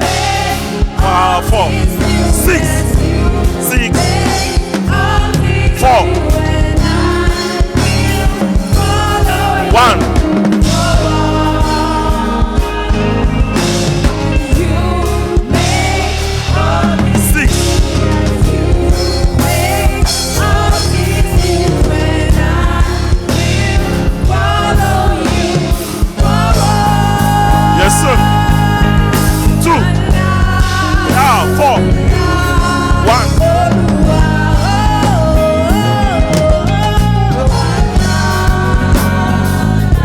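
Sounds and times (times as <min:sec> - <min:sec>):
choir singing: 0:00.0 - 0:40.0
gospel band playing: 0:00.0 - 0:40.0.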